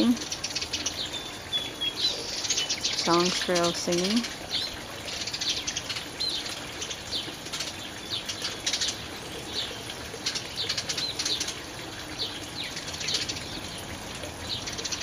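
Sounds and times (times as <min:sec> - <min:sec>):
sparrow singing: 0:00.0 - 0:13.8.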